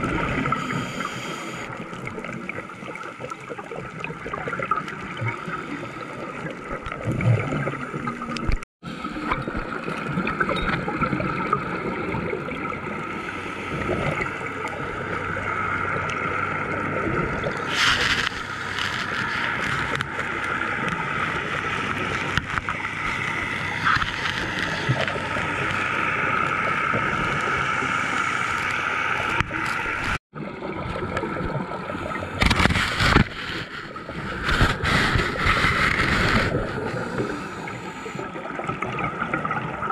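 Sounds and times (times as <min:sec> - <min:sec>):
muffled underwater noise: 0:04.2 - 0:39.9.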